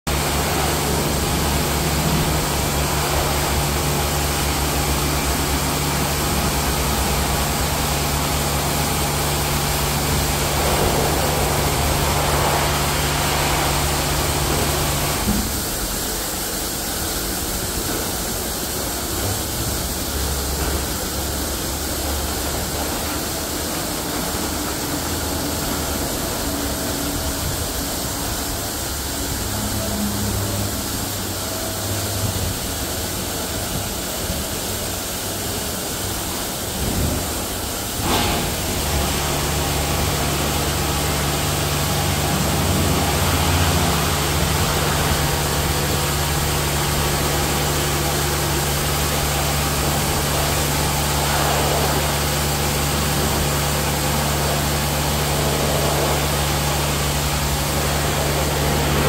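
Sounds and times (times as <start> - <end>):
pump hum: 0.1 - 59.0
water jets spraying: 0.1 - 59.0.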